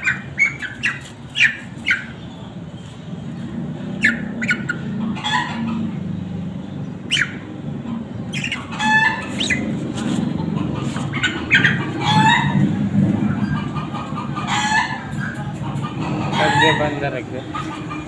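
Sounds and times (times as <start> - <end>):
chicken squawking: 0.0 - 2.4, 3.9 - 6.0, 7.0 - 18.0.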